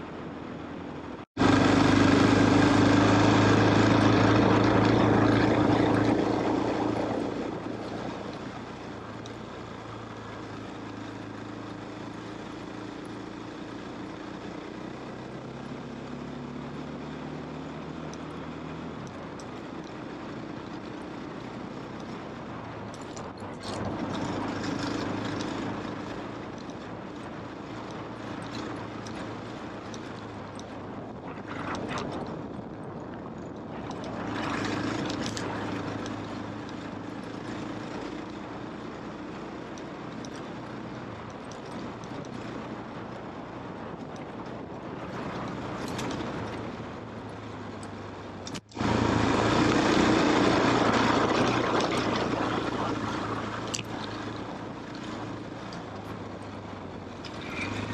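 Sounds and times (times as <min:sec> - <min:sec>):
motorcycle engine revving: 0:01.3 - 0:57.9.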